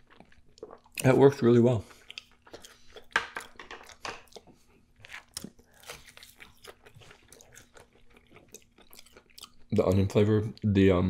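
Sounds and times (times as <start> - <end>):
person chewing crunchy food: 0.0 - 1.2, 1.8 - 10.7.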